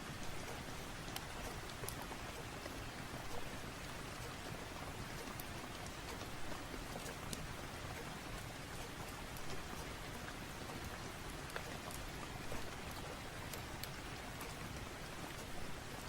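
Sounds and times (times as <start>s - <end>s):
fireplace fire crackling: 0.0s - 16.0s
steady rain: 0.0s - 16.0s.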